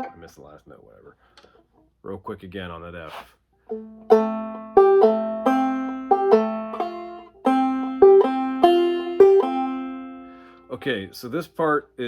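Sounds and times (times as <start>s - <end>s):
banjo picking single notes: 0.0s - 1.6s, 3.1s - 11.7s.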